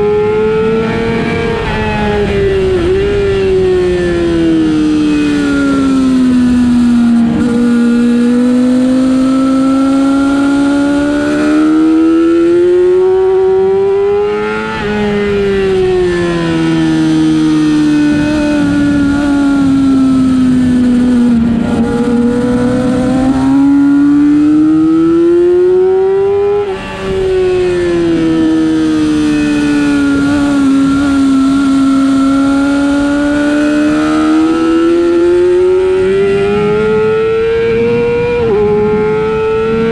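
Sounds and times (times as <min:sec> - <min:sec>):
race motorcycle engine: 0:00.0 - 0:39.9.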